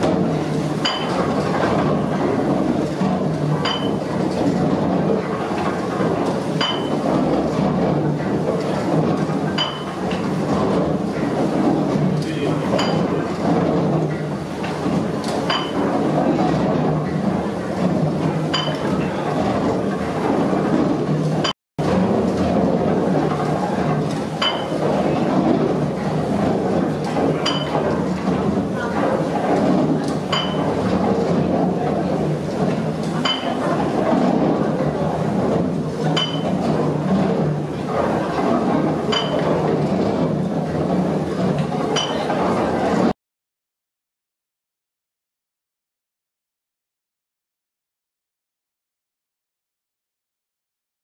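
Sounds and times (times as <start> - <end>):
gear wheels clattering and rumbling: 0.0 - 43.1.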